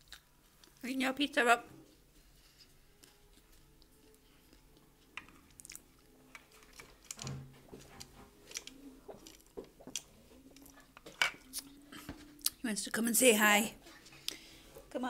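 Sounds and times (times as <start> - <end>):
faint chewing: 0.0 - 0.8, 2.2 - 12.6, 13.8 - 14.9.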